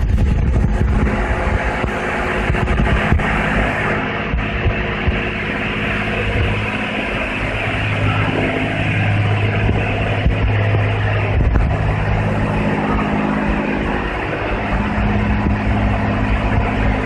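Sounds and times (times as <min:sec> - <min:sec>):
pump hum: 0:00.0 - 0:17.0.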